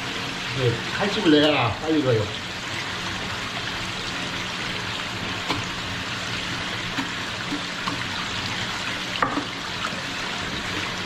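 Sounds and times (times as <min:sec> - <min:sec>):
water running steadily: 0:00.0 - 0:11.0.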